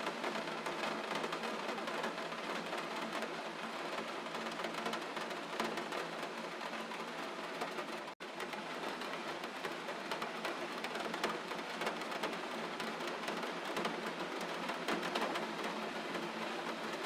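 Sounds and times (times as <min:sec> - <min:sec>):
rain patter: 0:00.0 - 0:17.0.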